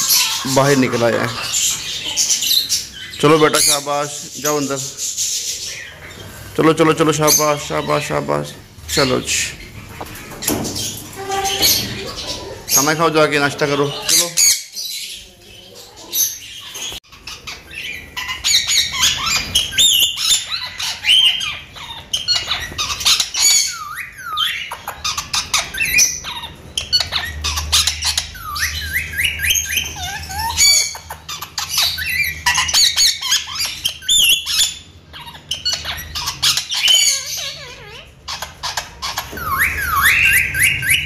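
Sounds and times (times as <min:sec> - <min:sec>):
parakeet squawking: 0:00.0 - 0:41.0.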